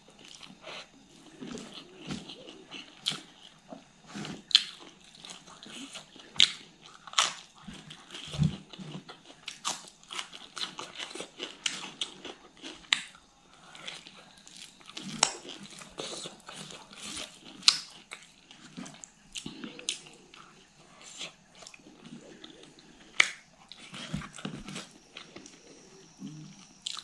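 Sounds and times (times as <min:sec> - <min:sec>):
person chewing and smacking: 0:00.1 - 0:27.0.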